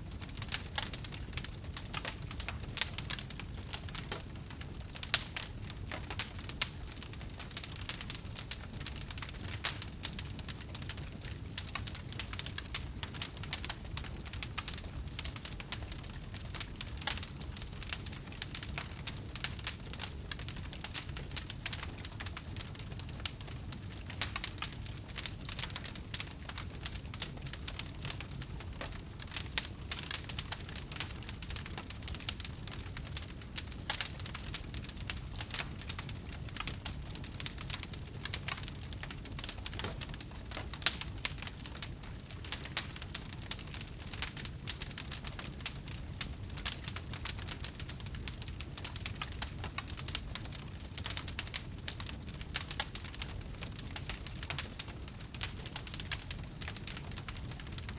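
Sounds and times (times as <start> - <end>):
bonfire crackling and popping: 0.0 - 57.9.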